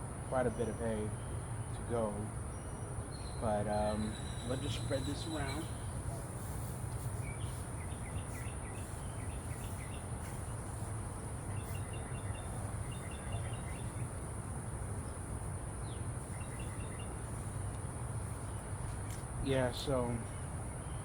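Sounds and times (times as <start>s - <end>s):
small birds chirping: 0.3s - 21.0s
insect drone: 3.1s - 21.0s.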